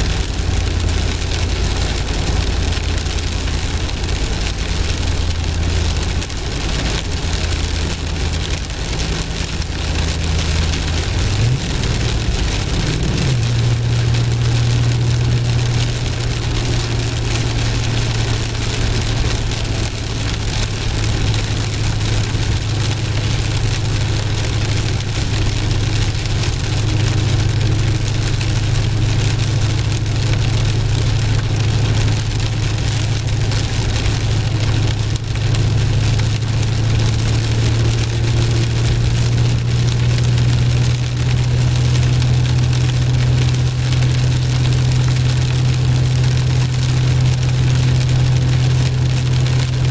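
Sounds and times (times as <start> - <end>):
car engine drone: 0.0 - 49.9
rain hitting windshield: 0.0 - 49.9.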